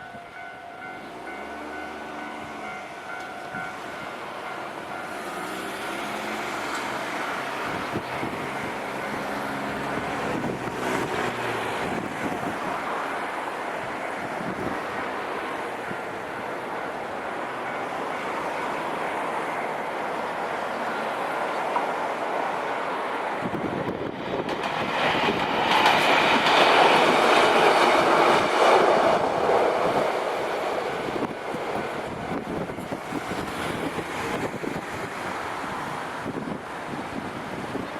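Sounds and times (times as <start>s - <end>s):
wheels clacking over rail joints: 0.0s - 19.9s, 23.2s - 36.4s
electric train passing: 0.0s - 37.9s.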